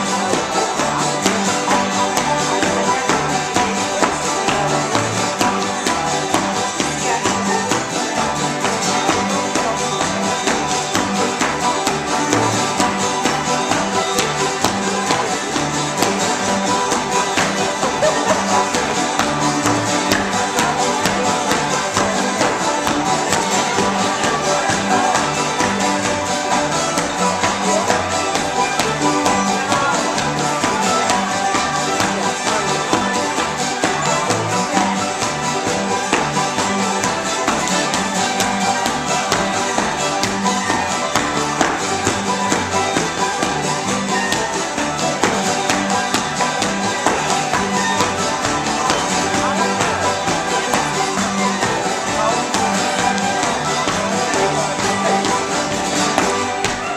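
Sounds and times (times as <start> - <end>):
string band playing lively tune: 0.0 - 56.9
shoes tapping wooden floor: 8.6 - 56.9.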